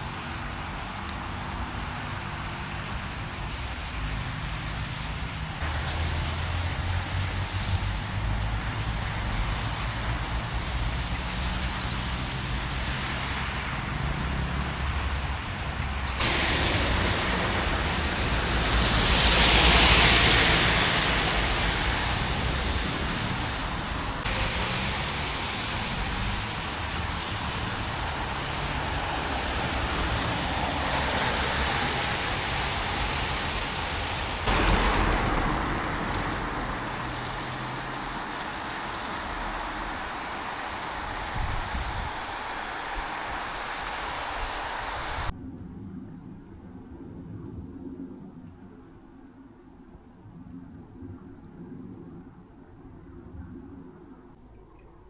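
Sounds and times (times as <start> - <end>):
vehicle tyre hiss: 0.0 - 45.3
road traffic rumble: 0.0 - 45.6.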